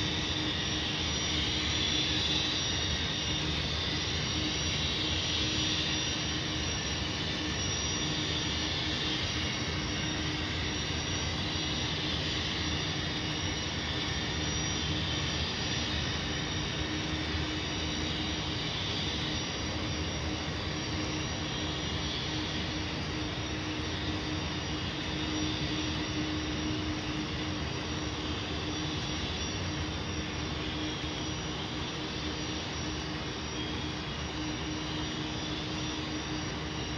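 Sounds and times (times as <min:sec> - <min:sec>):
constant low hum: 0:00.0 - 0:36.9
turbine locomotive sound running: 0:00.0 - 0:36.9.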